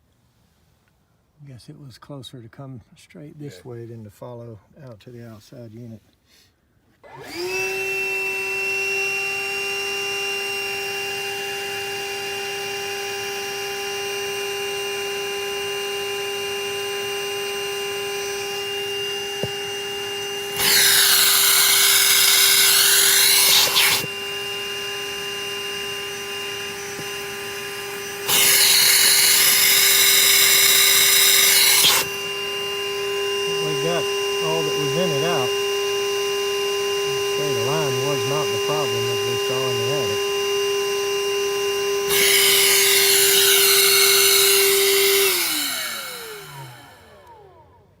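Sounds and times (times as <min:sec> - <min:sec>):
shop vacuum whining: 0:06.9 - 0:48.0.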